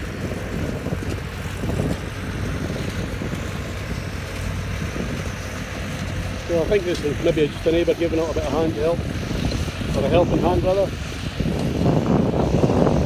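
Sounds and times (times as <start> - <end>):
tractor engine running: 0.0 - 13.0
wind blowing across microphone: 0.0 - 13.0.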